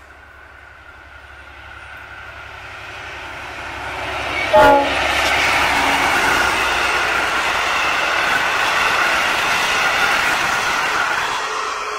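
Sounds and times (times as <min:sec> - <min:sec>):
train wheels rolling on rails: 0:00.0 - 0:11.9.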